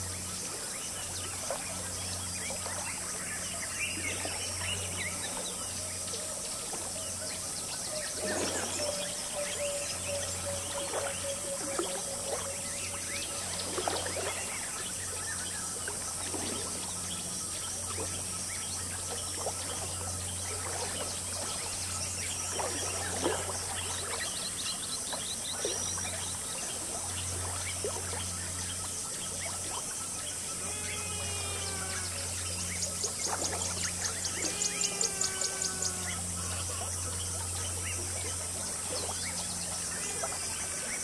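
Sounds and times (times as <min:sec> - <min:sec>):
high-pitched insect drone: 0:00.0 - 0:24.8, 0:25.4 - 0:41.0
bird calls: 0:00.0 - 0:41.0
water babbling and trickling: 0:00.0 - 0:41.0.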